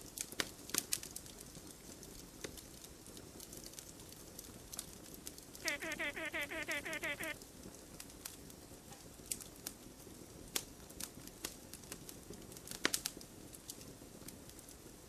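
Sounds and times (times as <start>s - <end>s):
campfire crackling: 0.0s - 15.0s
pops of burning wood: 0.0s - 15.0s.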